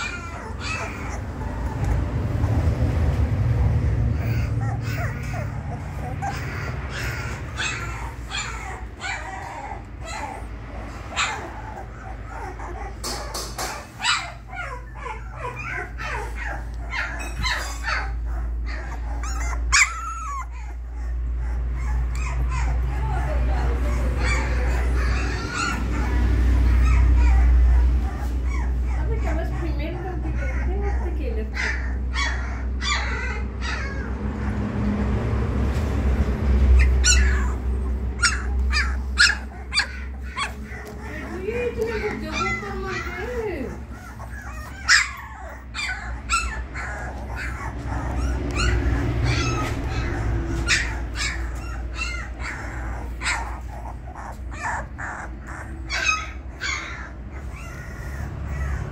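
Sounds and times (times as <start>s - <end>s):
puppy whining and yelping: 0.0s - 35.2s, 36.6s - 58.9s.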